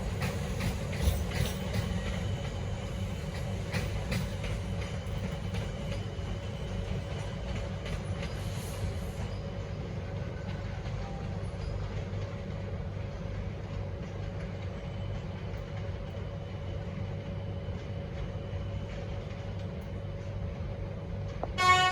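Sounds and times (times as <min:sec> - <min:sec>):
electric train rumble and hum: 0:00.0 - 0:21.9.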